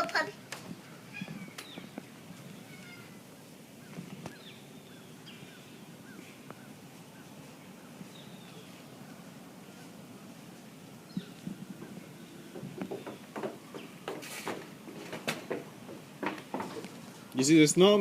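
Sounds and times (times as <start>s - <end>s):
small birds chirping: 0.0s - 10.4s, 11.0s - 17.6s.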